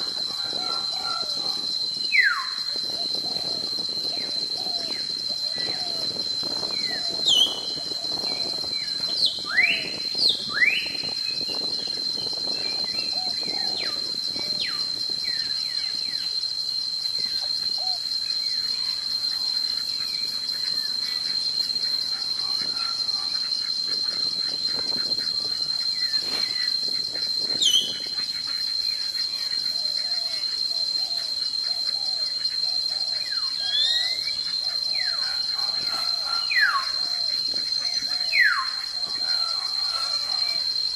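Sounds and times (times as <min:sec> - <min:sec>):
insect drone pulsing: 0:00.0 - 0:40.9
bird whistled calls: 0:02.0 - 0:16.4, 0:17.2 - 0:40.7.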